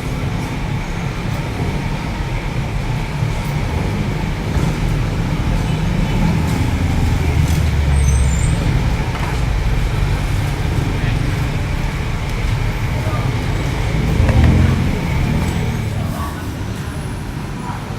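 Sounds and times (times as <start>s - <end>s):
heavy vehicle passing: 0.0s - 17.9s
road traffic: 0.0s - 17.9s.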